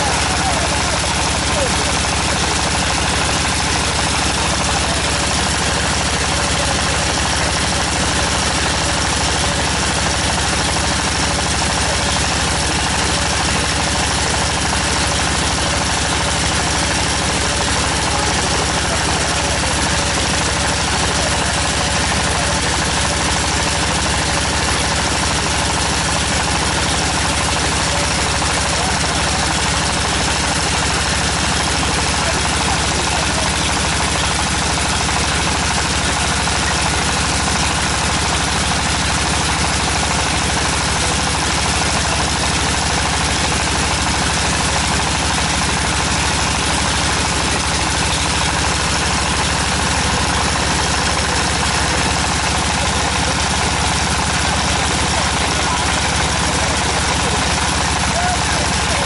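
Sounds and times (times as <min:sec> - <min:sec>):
well drilling rig engine running: 0:00.0 - 0:59.0.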